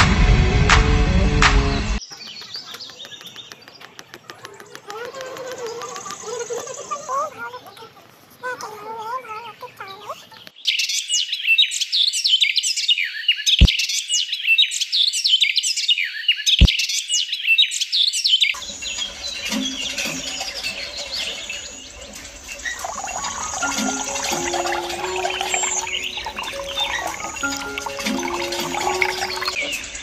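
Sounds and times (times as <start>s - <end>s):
birds chirping and twittering: 1.7s - 30.0s.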